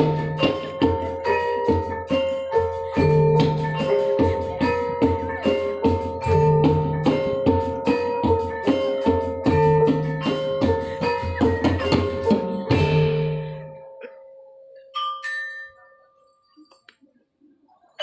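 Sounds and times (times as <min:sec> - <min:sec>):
metallophones struck in rhythm: 0:00.0 - 0:16.6.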